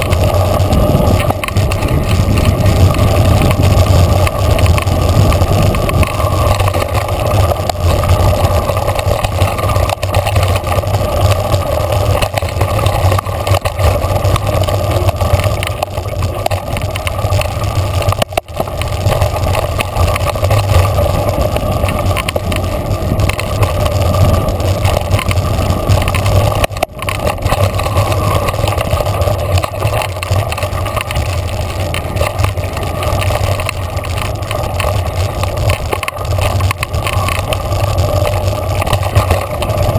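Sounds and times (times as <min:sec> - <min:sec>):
bike rattling clicks: 0:00.0 - 0:39.9
bike tyre noise: 0:00.0 - 0:39.9
wind on microphone: 0:00.0 - 0:39.9.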